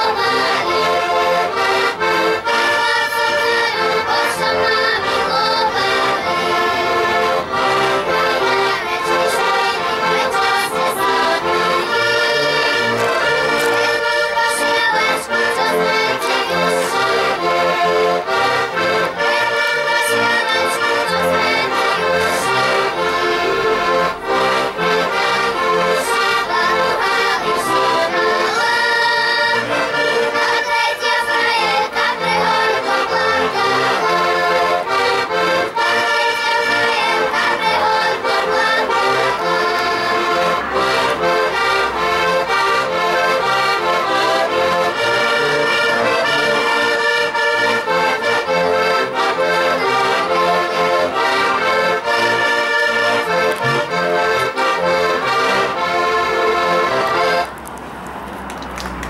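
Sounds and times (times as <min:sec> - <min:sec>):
accordions playing folk tune: 0:00.0 - 0:57.8.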